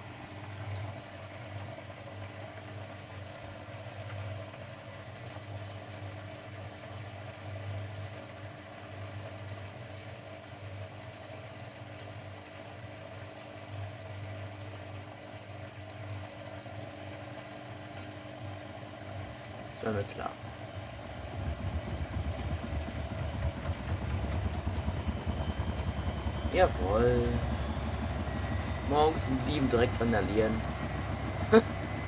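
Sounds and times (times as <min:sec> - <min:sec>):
washing machine humming and throbbing: 0:00.0 - 0:32.0.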